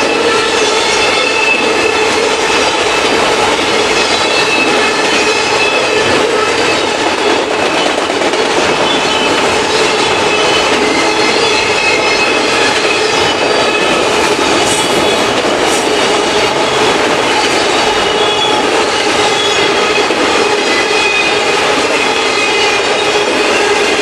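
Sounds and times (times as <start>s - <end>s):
freight train rumble and clatter: 0.0s - 24.0s.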